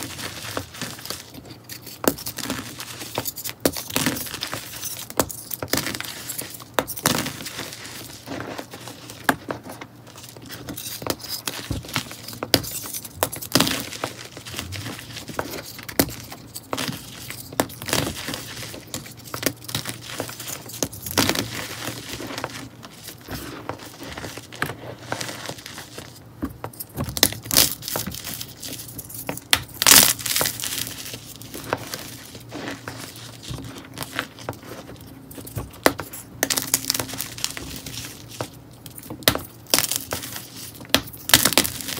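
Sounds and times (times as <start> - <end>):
dry blocks crunching: 0.0 - 41.9.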